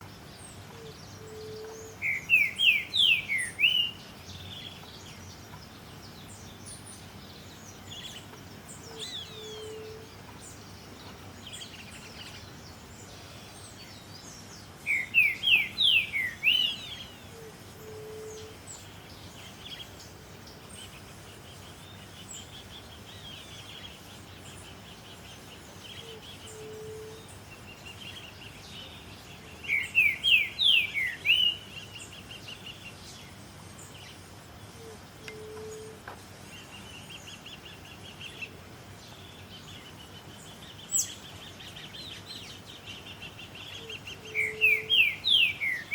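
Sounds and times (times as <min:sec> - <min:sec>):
faint high bird chirps: 0:00.0 - 0:14.2, 0:14.8 - 0:33.3, 0:36.6 - 0:45.9.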